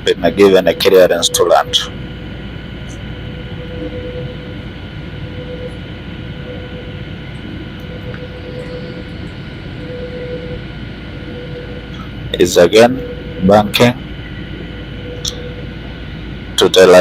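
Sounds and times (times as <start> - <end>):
aircraft cabin engine drone: 0.0 - 17.0
faint steady hum: 0.0 - 17.0.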